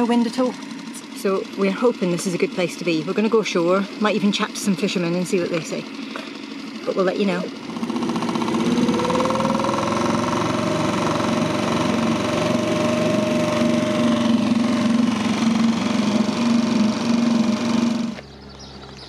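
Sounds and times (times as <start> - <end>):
small outboard motor running: 0.0 - 19.0.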